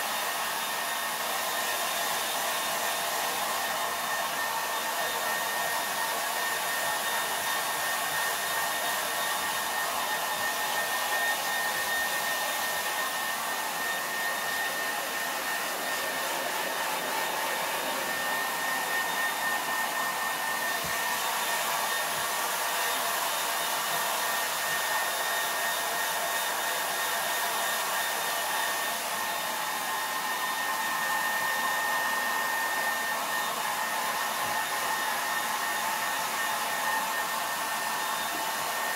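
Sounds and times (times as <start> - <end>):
blow dryer running: 0.0 - 38.9.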